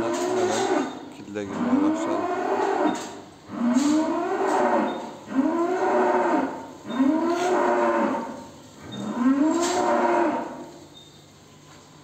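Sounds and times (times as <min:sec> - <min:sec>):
cow mooing: 0:00.0 - 0:10.8.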